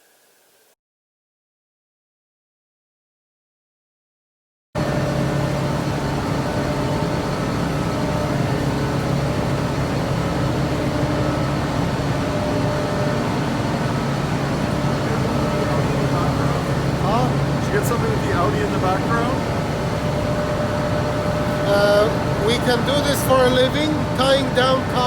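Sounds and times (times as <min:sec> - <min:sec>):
ship engines droning: 0:04.8 - 0:25.0.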